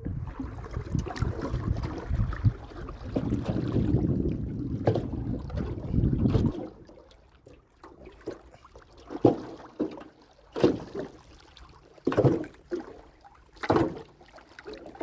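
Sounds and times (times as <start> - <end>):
water splashing around boat: 0.0 - 15.0.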